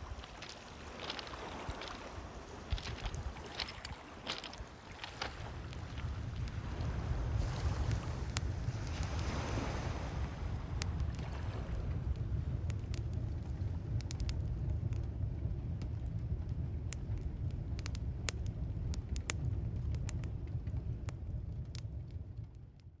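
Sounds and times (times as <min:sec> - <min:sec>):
campfire crackling and popping: 0:00.0 - 0:23.0
steady low rumble: 0:00.0 - 0:23.0.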